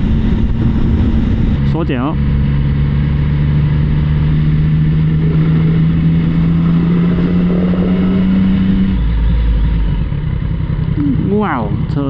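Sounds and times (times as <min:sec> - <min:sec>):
motorcycle engine: 0:00.0 - 0:12.0
wind and road rush: 0:00.0 - 0:12.0.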